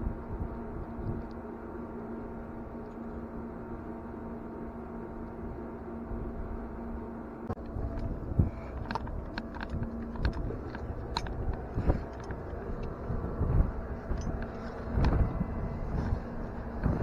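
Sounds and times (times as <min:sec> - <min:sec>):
machinery drone: 0:00.0 - 0:17.0.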